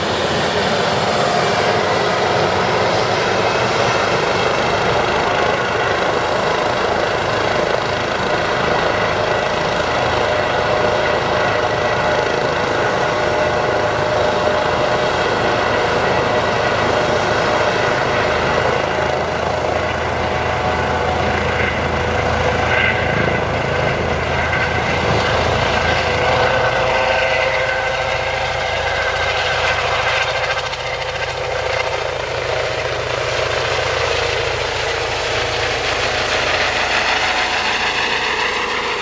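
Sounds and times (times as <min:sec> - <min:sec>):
helicopter turbines and rotor: 0:00.0 - 0:39.0.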